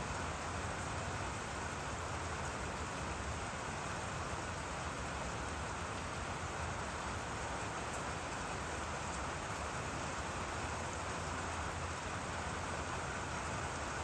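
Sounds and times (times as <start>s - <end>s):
rain falling on trees: 0.0s - 14.0s.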